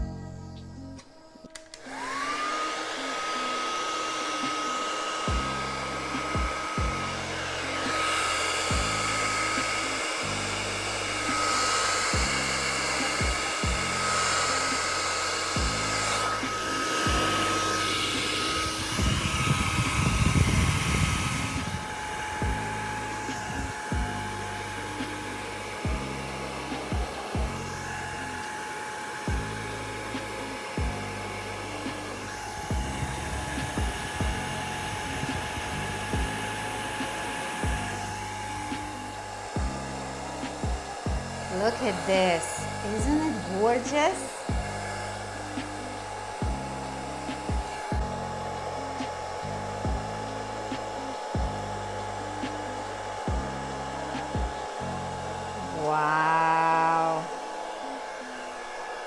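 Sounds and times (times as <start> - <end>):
background music with steady beat: 0.0 - 59.0
hair dryer running: 1.3 - 59.0.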